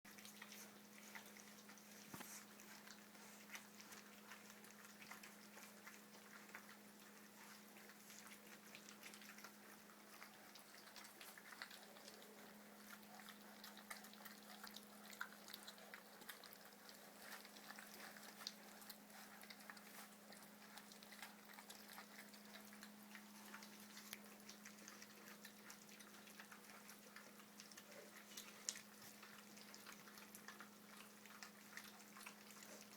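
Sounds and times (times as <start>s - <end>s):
puppies lapping food: 0.1s - 32.9s.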